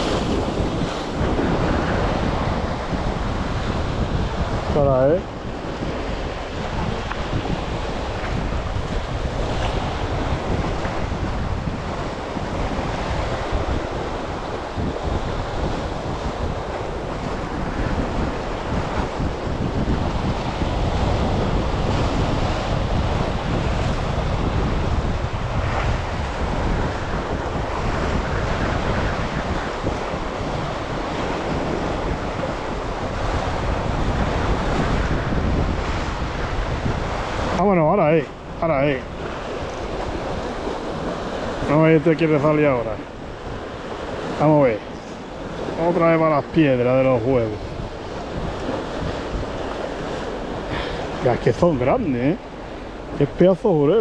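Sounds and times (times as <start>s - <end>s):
sea waves washing: 0.0s - 54.0s
wind rumbling on microphone: 0.0s - 54.0s.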